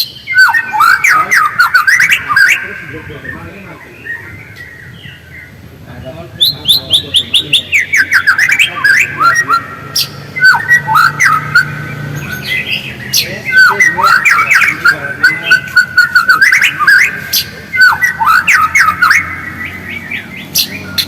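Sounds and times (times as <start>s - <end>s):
songbird whistled notes: 0.0s - 5.5s, 6.4s - 21.0s.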